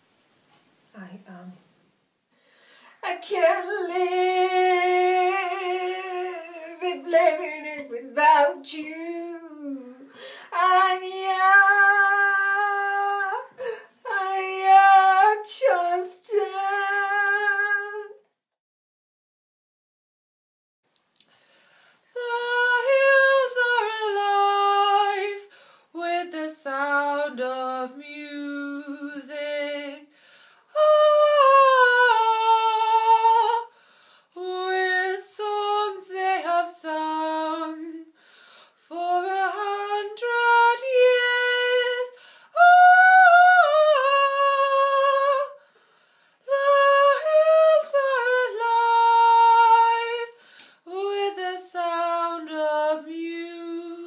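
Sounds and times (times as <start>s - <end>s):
high voice singing unaccompanied: 3.0s - 18.2s, 22.2s - 30.0s, 30.7s - 33.7s, 34.4s - 38.1s, 38.9s - 45.6s, 46.4s - 54.0s.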